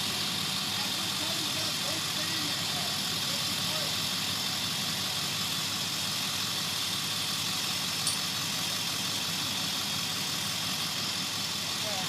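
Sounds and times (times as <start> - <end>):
pickup truck engine idling: 0.0 - 12.0.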